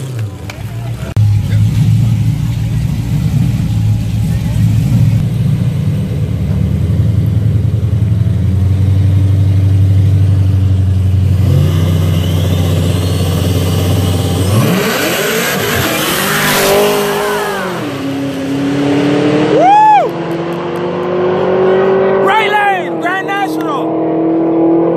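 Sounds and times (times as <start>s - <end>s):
car engines accelerating hard: 0.0s - 24.9s.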